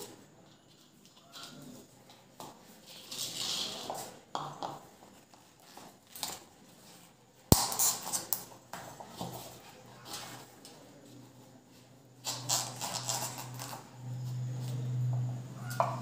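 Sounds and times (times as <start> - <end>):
ceiling fan parts clicking and scraping: 0.0 - 16.0.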